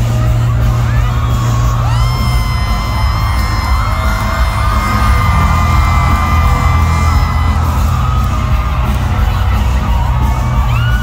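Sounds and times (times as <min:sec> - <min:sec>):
fans screaming: 0:00.0 - 0:11.0
live concert music with heavy bass: 0:00.0 - 0:11.0.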